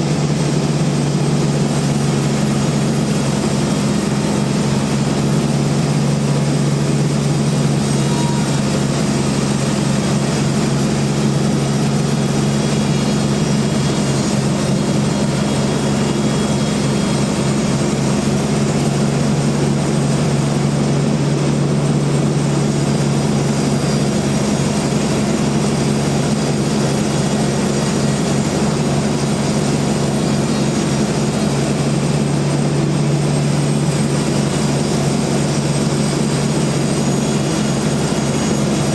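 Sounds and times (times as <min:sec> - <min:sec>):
bandsaw rushing noise: 0:00.0 - 0:38.9
sawmill motor hum: 0:00.0 - 0:38.9.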